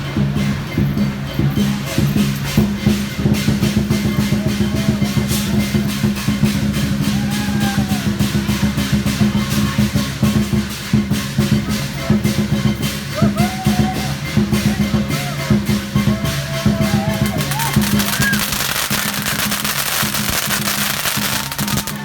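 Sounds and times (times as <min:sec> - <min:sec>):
cymbals clashing: 0:00.0 - 0:22.0
large drum beaten fast: 0:02.6 - 0:22.0.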